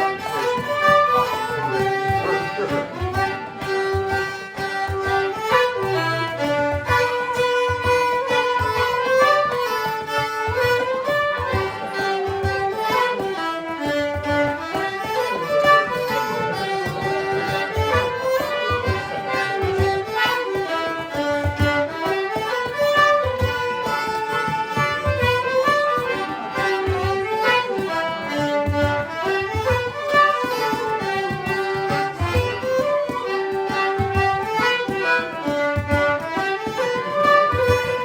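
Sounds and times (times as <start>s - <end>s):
fiddle melody: 0.0s - 38.0s
low beat: 0.0s - 38.0s.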